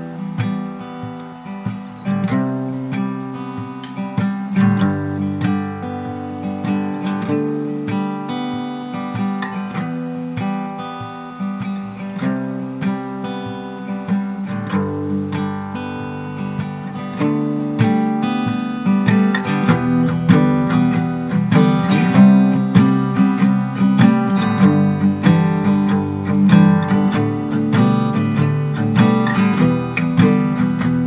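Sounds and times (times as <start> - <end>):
acoustic guitar playing: 0.0 - 31.0.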